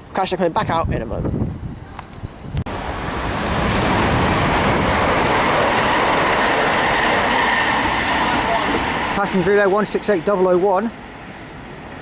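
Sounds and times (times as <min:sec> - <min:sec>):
train passing: 0:01.5 - 0:12.0.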